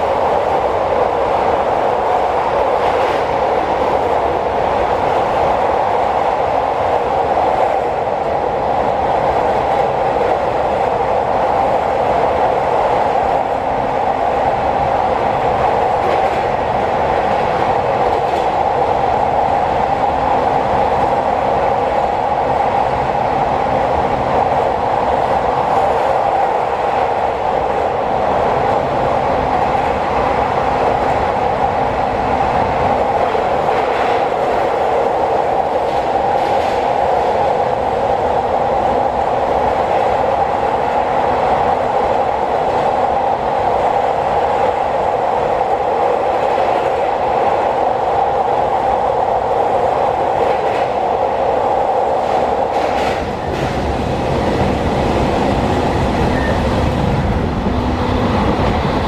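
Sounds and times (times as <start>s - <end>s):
train wheels roaring on rails: 0.0s - 59.0s.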